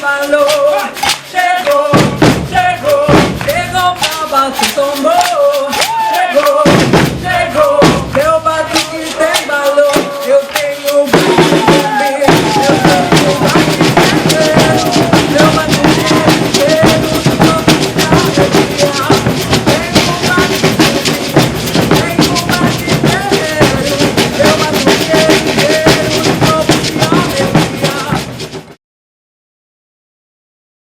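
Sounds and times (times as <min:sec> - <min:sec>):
percussion ensemble drumming: 0:00.0 - 0:28.8.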